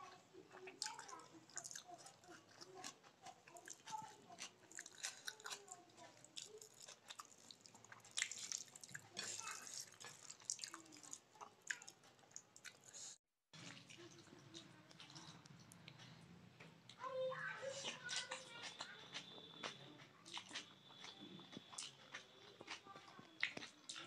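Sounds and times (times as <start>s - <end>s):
wet chewing: 0.1s - 16.3s, 17.6s - 24.0s.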